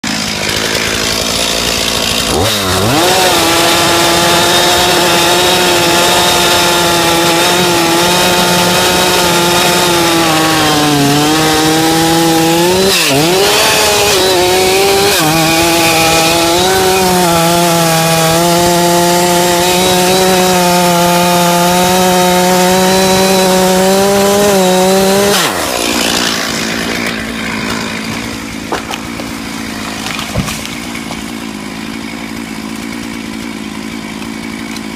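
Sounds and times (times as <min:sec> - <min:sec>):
chainsaw cutting into tree: 0:00.0 - 0:34.9.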